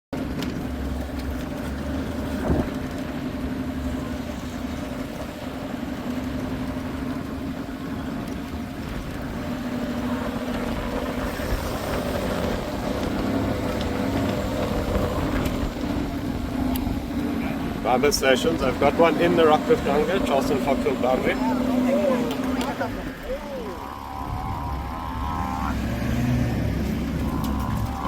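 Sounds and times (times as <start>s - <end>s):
vehicle engine humming: 0.2s - 28.0s.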